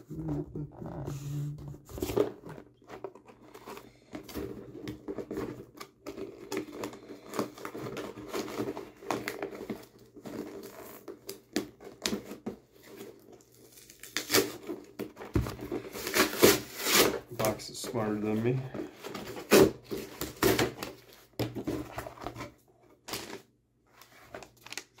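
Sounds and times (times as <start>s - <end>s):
cardboard tearing and crinkling: 1.8s - 23.4s, 24.0s - 25.0s.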